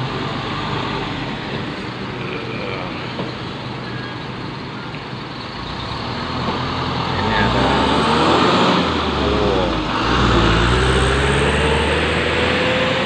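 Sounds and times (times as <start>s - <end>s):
bus and lorry engines running: 0.0s - 13.0s
bus pulling away: 0.0s - 13.0s.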